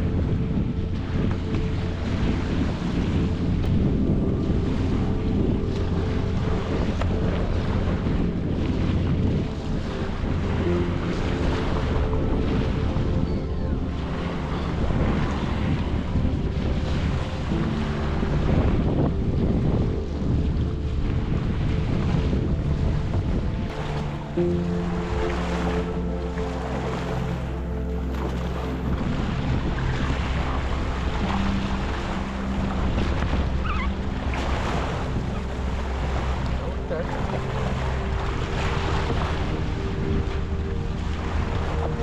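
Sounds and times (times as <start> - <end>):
sea water sloshing and splashing: 0.0 - 42.0
wind buffeting microphone: 0.0 - 42.0.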